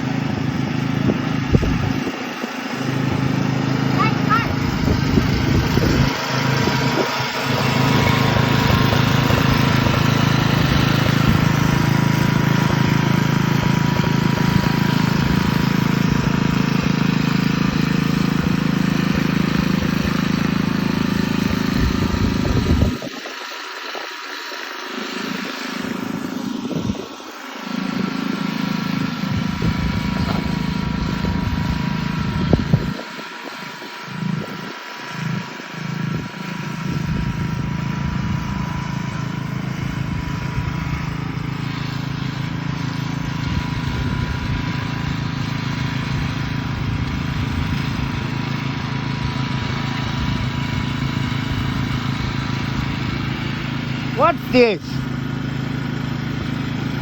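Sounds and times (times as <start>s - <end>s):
lawn mower engine humming: 0.0s - 57.0s.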